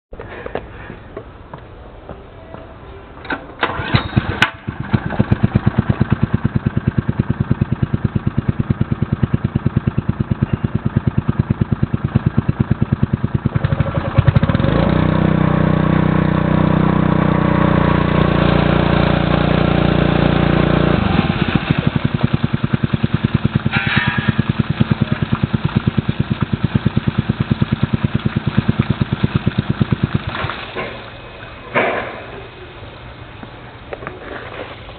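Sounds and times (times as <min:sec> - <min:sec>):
small engine starting and idling: 0:03.2 - 0:34.9.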